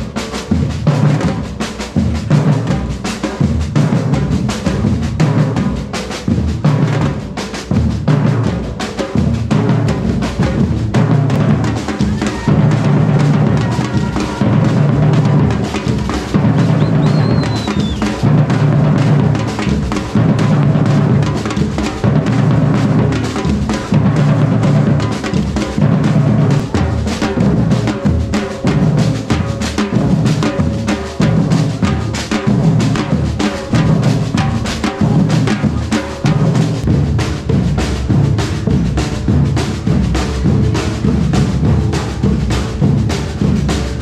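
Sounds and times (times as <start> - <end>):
drum ensemble playing loudly: 0.0 - 44.0.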